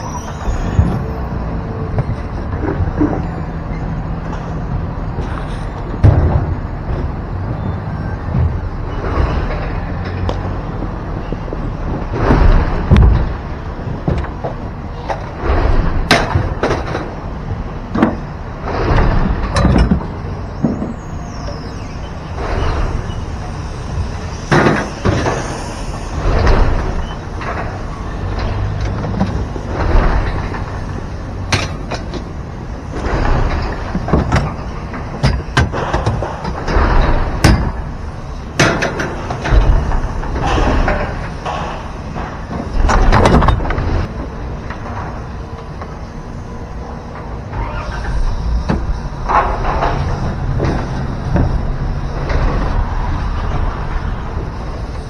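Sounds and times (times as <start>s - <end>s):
clunks and rattles: 0.0s - 55.0s
truck engine rumbling: 0.0s - 55.0s.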